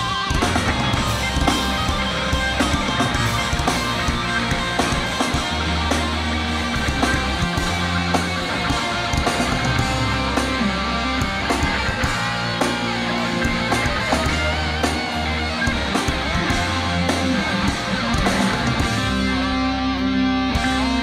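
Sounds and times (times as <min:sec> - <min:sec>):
drum and cymbal hits: 0:00.0 - 0:19.6
electric guitars: 0:00.0 - 0:21.0
live hardcore band playing: 0:00.0 - 0:21.0.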